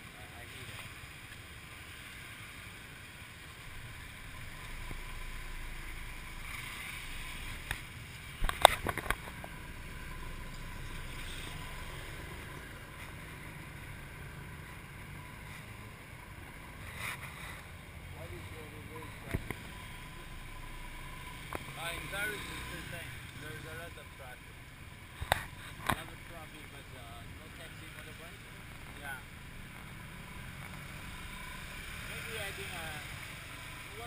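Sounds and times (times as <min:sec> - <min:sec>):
small motorbike engine rumble: 0:00.0 - 0:34.0
traffic: 0:00.0 - 0:34.0.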